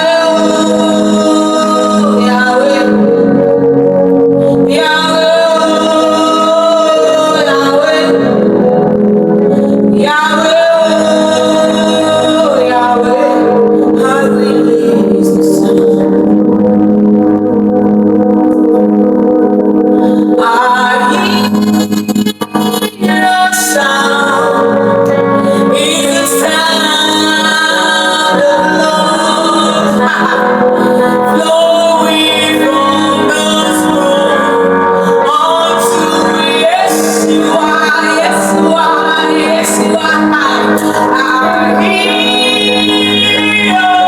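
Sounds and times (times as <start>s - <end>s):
woman singing: 0.0s - 3.5s, 4.6s - 8.8s, 9.9s - 16.3s, 20.0s - 44.0s
sustained instrumental chords: 0.0s - 44.0s.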